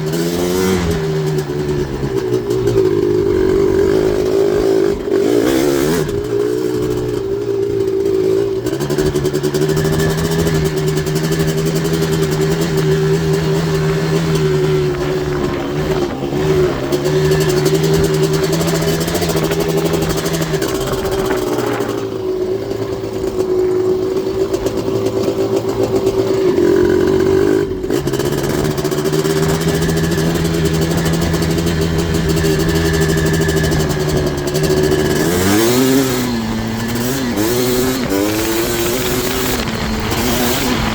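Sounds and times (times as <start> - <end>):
two-stroke engine revving high: 0.0 - 40.9.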